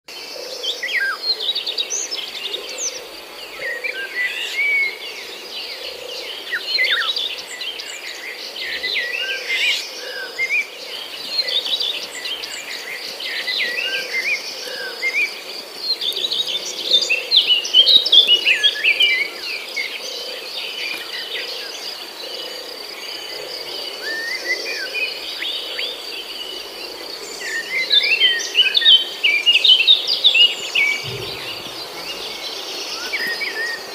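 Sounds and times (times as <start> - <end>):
birds chirping: 1.0 - 33.9
high insect drone: 1.6 - 33.9.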